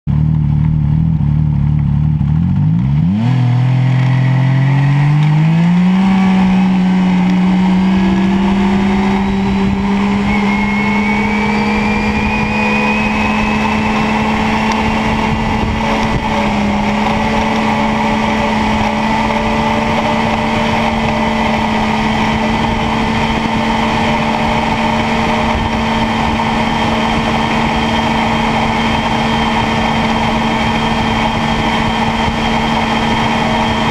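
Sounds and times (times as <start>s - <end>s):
snowmobile engine revving: 2.0s - 33.9s
thin high whine: 5.8s - 33.9s.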